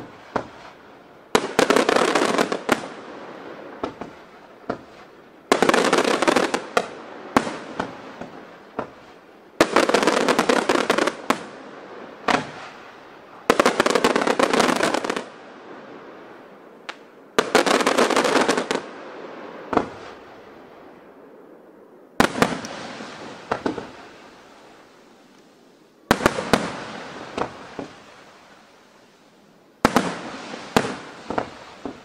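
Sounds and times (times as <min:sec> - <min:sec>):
fireworks bangs and crackling: 0:00.0 - 0:21.5, 0:22.1 - 0:32.0.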